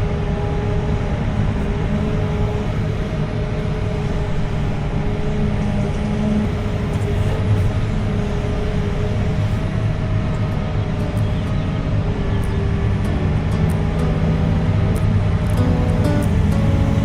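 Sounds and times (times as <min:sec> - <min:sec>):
heavy machinery engine running: 0:00.0 - 0:17.0.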